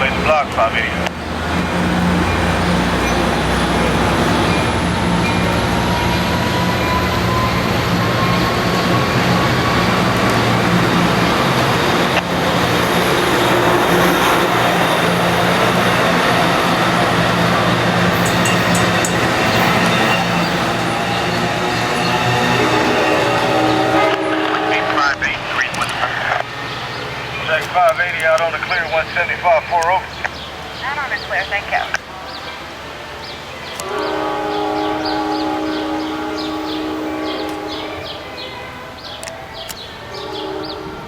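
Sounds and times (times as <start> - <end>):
diesel locomotive engine drone: 0.0 - 41.0
rail noise: 0.0 - 41.0.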